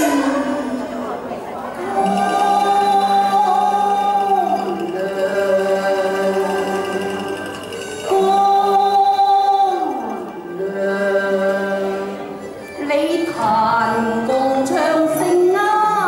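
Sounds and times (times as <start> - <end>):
woman singing into microphone: 0.0 - 1.2, 1.8 - 7.2, 8.0 - 16.0
backing music: 0.0 - 16.0.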